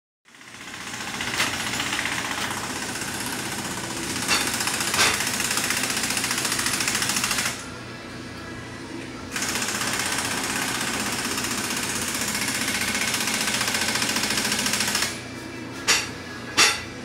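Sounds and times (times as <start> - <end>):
power tool hammering: 0.3 - 7.6, 9.4 - 15.2, 15.9 - 17.0.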